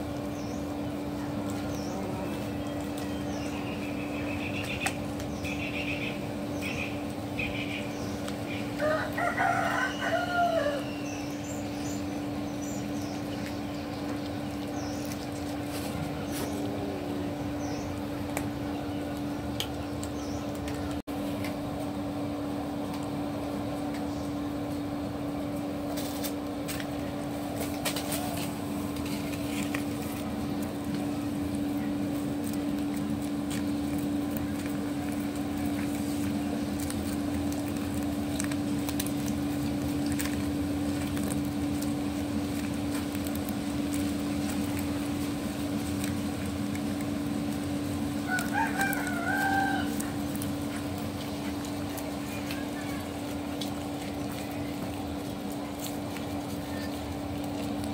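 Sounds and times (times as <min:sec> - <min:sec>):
outdoor background noise: 0:00.0 - 0:57.9
steady low hum: 0:00.0 - 0:57.9.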